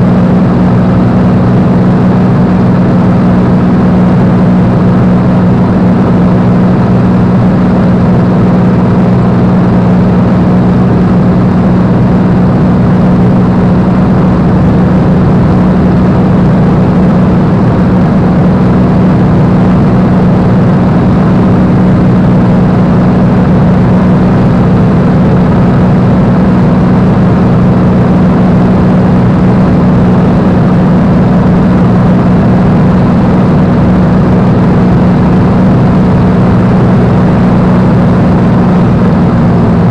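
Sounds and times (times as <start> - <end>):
propeller plane engine drone: 0.0 - 39.9
rushing air: 0.0 - 39.9.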